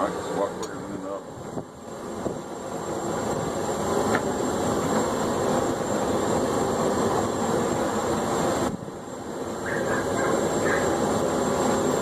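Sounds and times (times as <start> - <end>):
forge rushing noise: 0.0 - 12.0.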